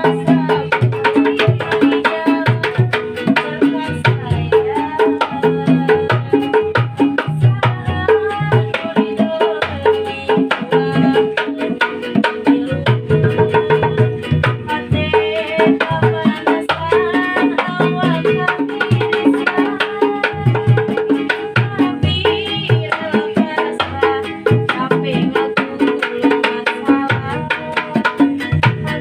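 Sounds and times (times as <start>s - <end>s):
hand drums beat: 0.0s - 29.0s.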